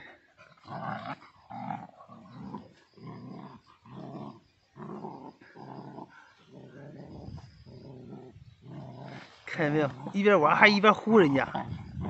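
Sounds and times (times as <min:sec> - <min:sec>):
dogs play-growling: 0:00.0 - 0:12.0.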